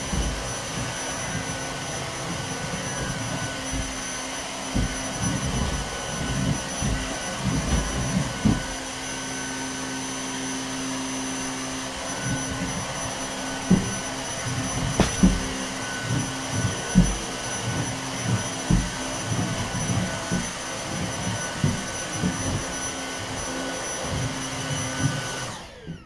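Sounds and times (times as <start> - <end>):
knocks and bumps: 0.0 - 9.0, 12.0 - 25.4
vacuum cleaner running: 0.0 - 26.0.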